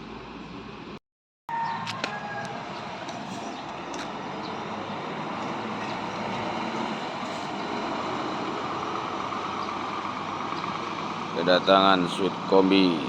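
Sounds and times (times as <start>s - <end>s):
traffic noise: 0.0s - 13.0s
bus engine running: 1.9s - 13.0s.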